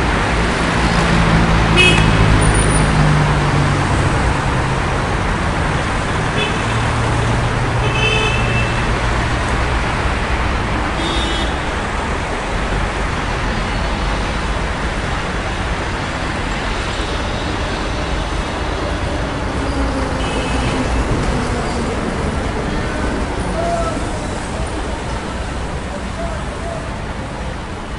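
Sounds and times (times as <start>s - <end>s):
traffic passing: 0.0s - 27.9s.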